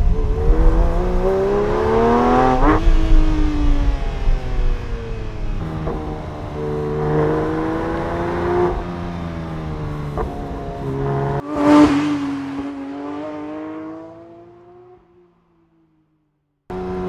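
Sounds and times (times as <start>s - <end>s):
sports car engine revving: 0.0s - 15.2s.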